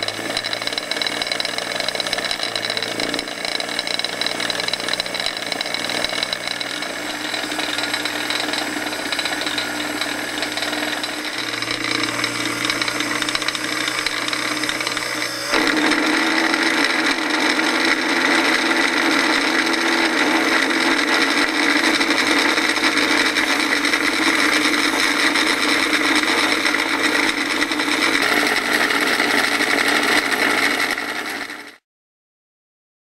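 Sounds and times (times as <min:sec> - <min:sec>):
electric motor whine and hum: 0:00.0 - 0:31.7.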